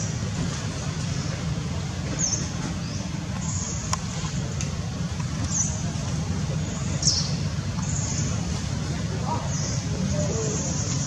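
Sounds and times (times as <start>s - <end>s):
low rumble of distant traffic: 0.0s - 11.0s.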